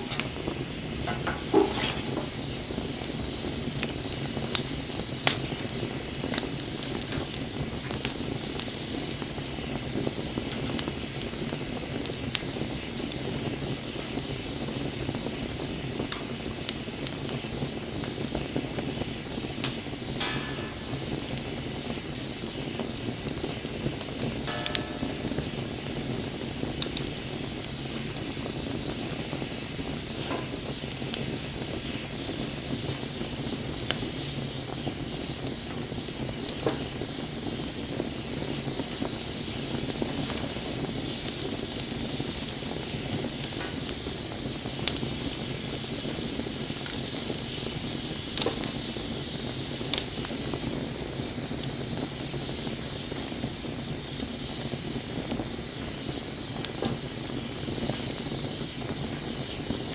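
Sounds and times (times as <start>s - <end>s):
fire pops: 0.0s - 59.9s
wood bonfire burning: 0.0s - 59.9s.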